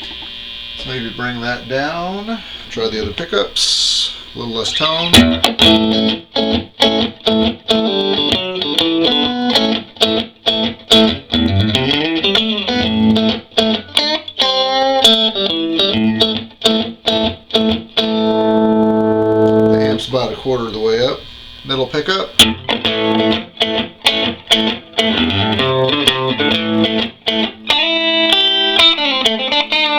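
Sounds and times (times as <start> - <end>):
clean electric guitar playing: 0.0 - 29.9.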